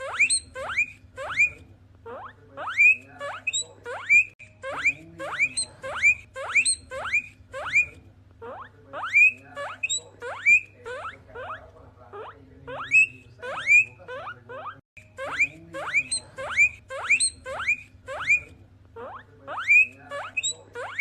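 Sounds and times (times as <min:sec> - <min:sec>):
guinea pigs wheeking: 0:00.0 - 0:21.0.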